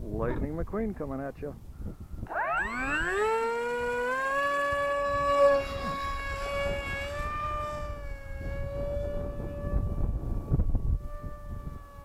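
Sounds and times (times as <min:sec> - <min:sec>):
model jet motor whine: 0:02.2 - 0:12.0.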